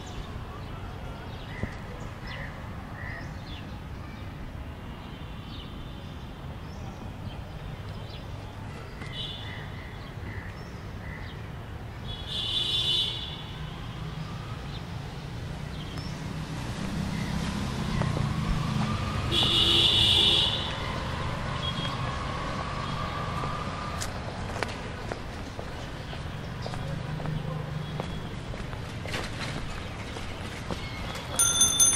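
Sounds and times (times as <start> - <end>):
street traffic rumble: 0.0 - 31.9.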